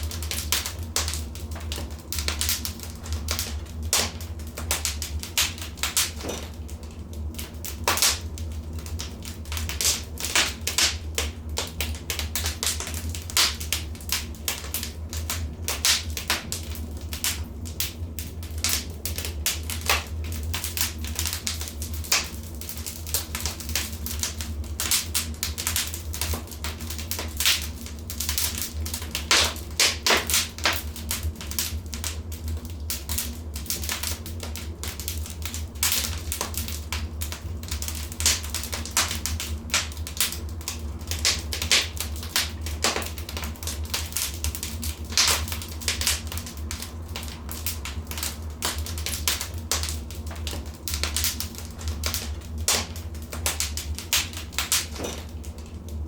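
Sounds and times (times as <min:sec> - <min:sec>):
steady low hum: 0:00.0 - 0:56.0
wood fire crackling: 0:00.0 - 0:56.0.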